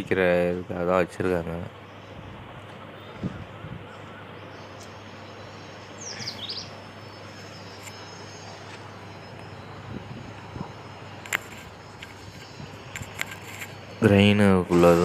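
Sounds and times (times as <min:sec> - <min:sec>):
low hum: 0:00.0 - 0:15.0
bird chirping: 0:01.6 - 0:15.0.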